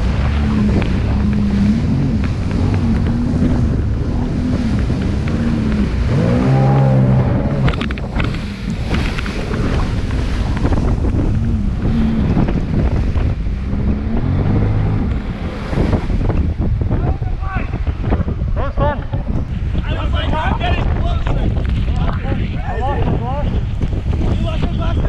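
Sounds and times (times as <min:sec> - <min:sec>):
jet ski engine running: 0:00.0 - 0:20.5
wind buffeting microphone: 0:00.0 - 0:25.0.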